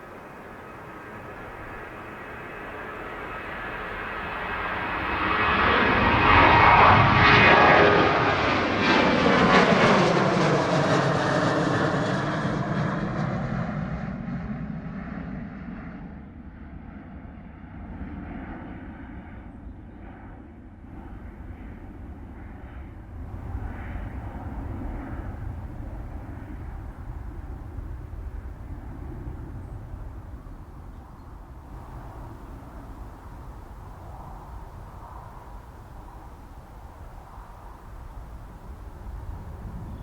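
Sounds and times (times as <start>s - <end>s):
jet airliner engines passing: 0.0s - 40.0s.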